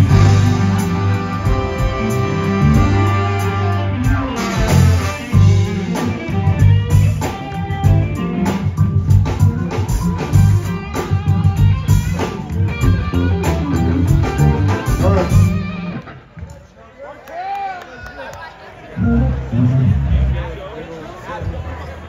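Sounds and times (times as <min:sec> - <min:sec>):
funk band playing: 0:00.0 - 0:16.5, 0:19.0 - 0:20.7.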